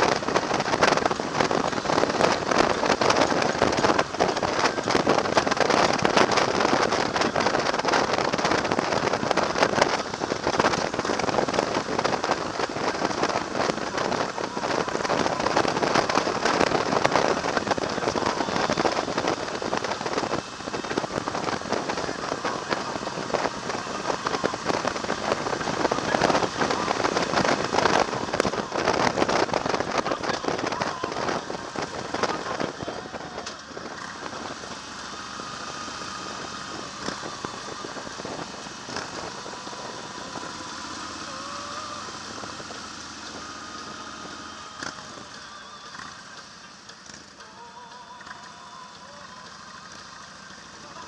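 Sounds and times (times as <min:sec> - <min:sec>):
wind buffeting microphone: 0:00.0 - 0:46.9
motorcycle running: 0:00.0 - 0:51.0.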